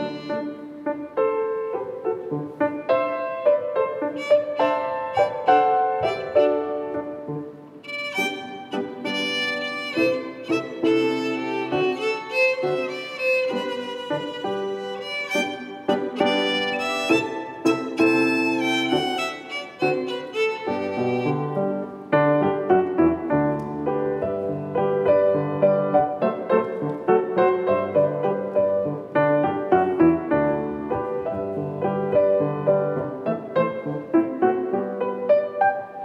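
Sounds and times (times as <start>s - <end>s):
violin melody: 0.0s - 34.7s
grand piano: 0.0s - 36.0s.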